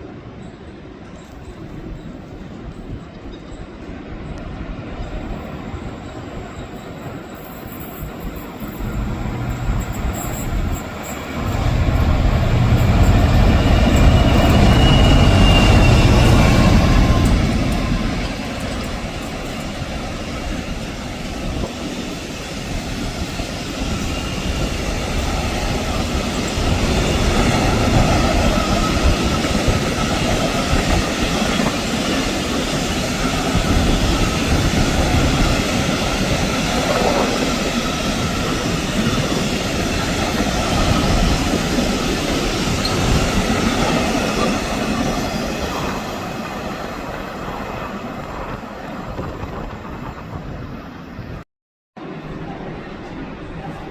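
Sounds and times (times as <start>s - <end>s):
train wheel squeal: 0.0s - 50.2s
diesel locomotive passing: 0.0s - 51.4s
freight train wagons rumbling: 0.0s - 51.4s.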